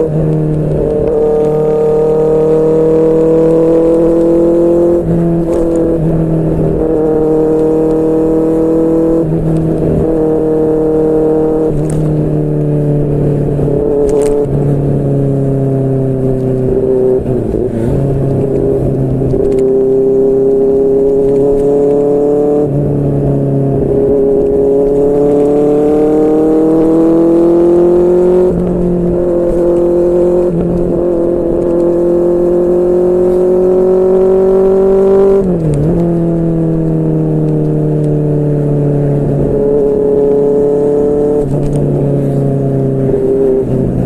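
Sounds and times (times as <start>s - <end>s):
motorcycle engine under throttle: 0.0s - 44.0s.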